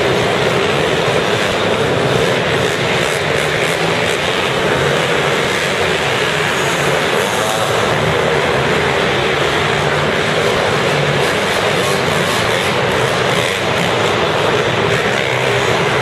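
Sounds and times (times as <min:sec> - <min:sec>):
dirt bike engines: 0:00.0 - 0:16.0.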